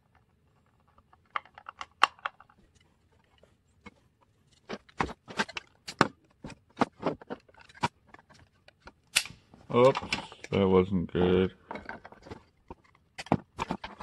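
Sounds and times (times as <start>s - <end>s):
plastic parts clicking and snapping: 0.0s - 10.6s, 11.7s - 14.0s.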